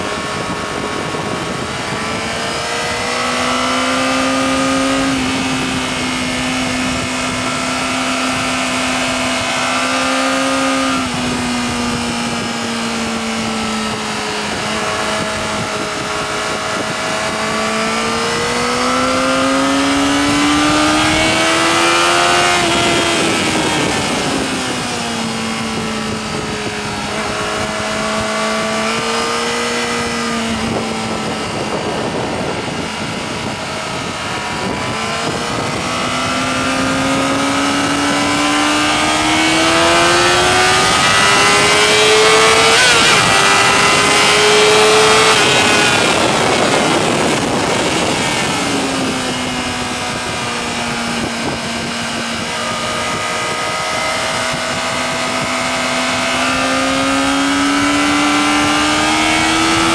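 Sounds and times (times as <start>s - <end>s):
motorcycle engine at high revs: 0.0s - 59.9s
wind rush: 0.0s - 59.9s.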